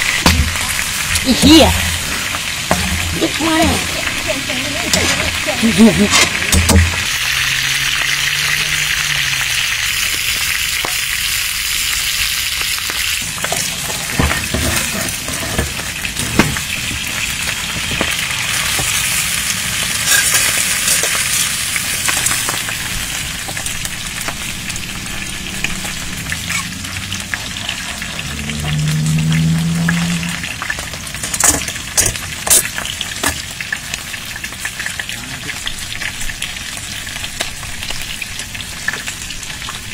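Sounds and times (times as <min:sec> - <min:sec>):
meat sizzling on griddle: 0:00.0 - 0:39.9.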